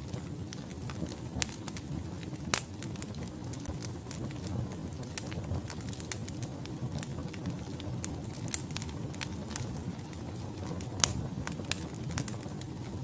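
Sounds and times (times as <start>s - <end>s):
logs crackling and popping in fire: 0.0s - 13.0s
low rumble of flame: 0.0s - 13.0s.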